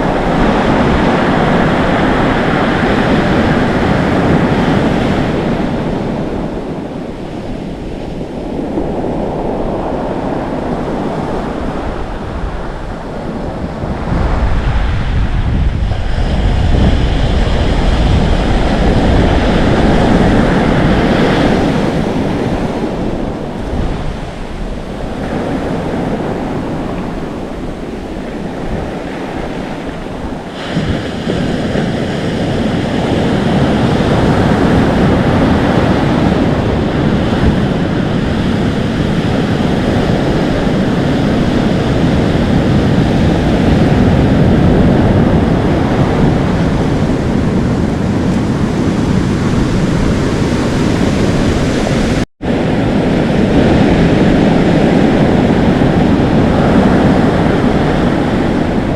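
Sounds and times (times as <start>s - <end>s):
surf waves washing in: 0.0s - 58.9s
wind buffeting microphone: 0.0s - 58.9s.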